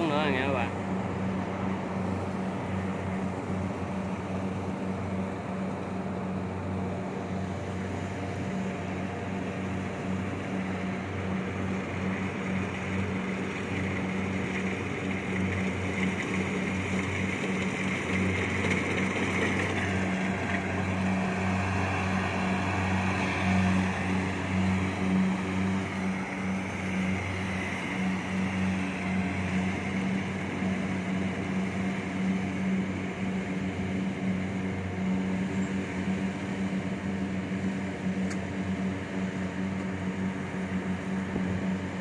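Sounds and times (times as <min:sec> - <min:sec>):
diesel engine humming: 0:00.0 - 0:42.0.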